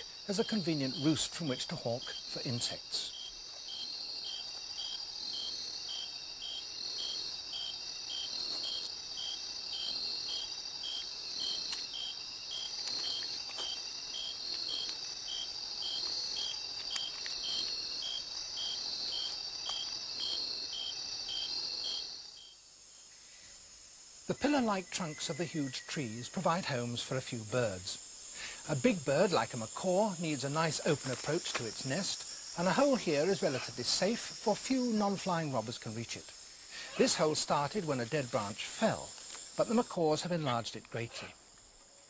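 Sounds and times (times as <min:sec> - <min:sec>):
insects shrilling: 0:00.0 - 0:42.0
pulsing insect chirp: 0:00.0 - 0:42.0.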